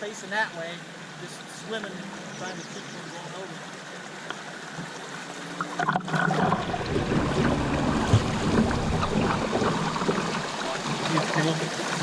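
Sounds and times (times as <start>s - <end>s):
river water rushing around kayak: 0.0s - 12.0s.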